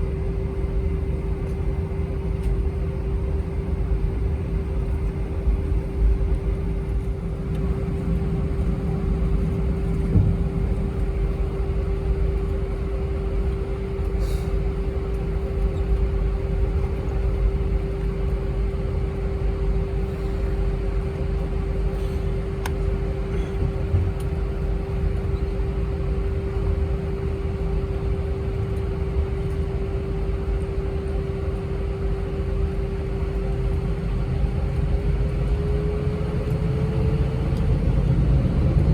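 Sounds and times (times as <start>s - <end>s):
constant hum: 0.0s - 38.9s
low engine rumble: 0.0s - 38.9s.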